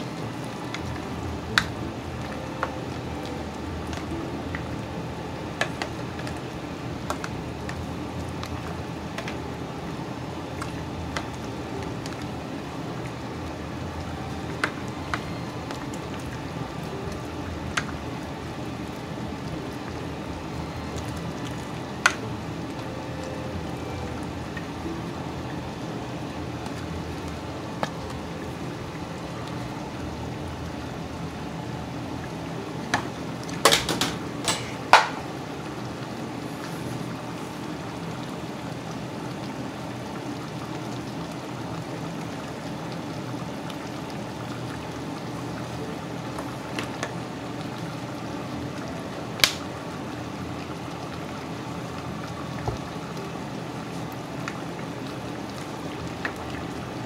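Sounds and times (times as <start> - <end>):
meat simmering with bubbling hiss: 0.0 - 57.0.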